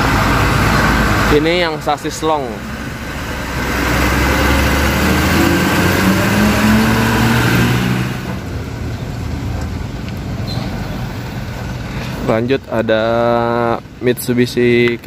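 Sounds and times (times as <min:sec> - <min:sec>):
truck diesel engine passing: 0:00.0 - 0:13.8.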